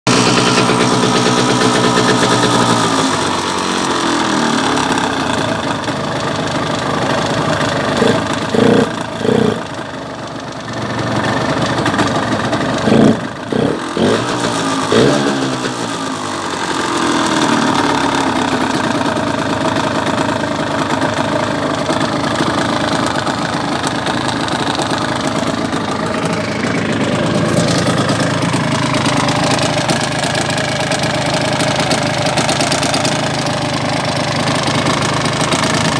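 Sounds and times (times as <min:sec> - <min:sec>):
two-stroke engine running: 0:00.1 - 0:35.9.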